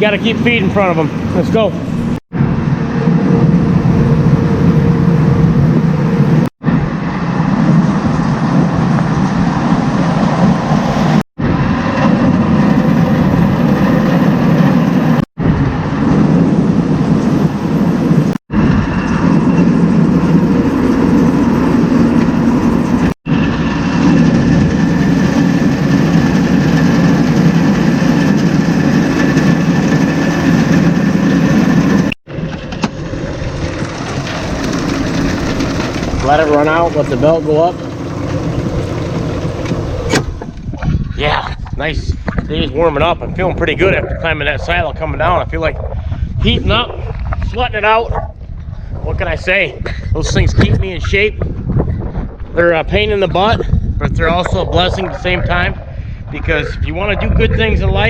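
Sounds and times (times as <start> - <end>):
farm machinery mechanical drone: 0.0 - 41.0, 50.4 - 58.0.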